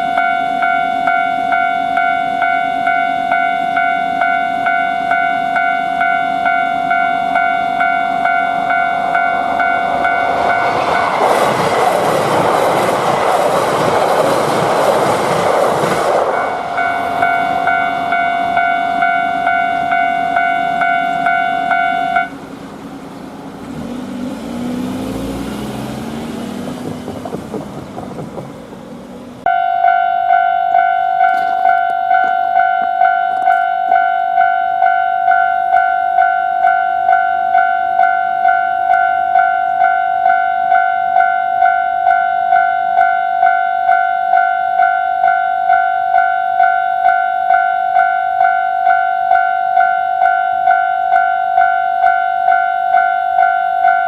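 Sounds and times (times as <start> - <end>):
level-crossing warning bell ringing: 0.0 - 22.6, 29.4 - 54.0
passing train running noise: 0.0 - 54.0.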